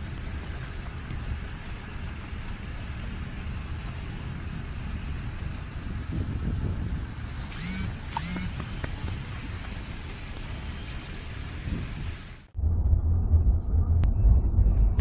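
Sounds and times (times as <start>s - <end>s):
street traffic rumble: 0.0s - 15.0s
wind noise on microphone: 0.0s - 15.0s.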